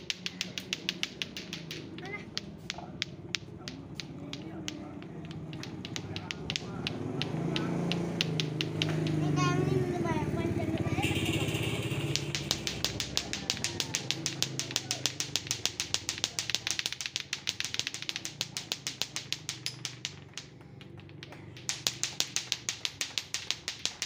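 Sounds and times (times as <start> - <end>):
clacker toy balls clacking: 0.0 - 24.0.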